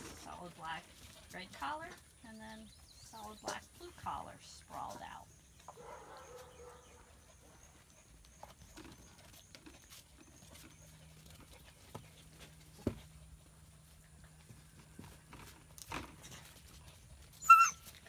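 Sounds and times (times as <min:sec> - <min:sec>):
puppy paws pattering on concrete: 0:00.0 - 0:18.0.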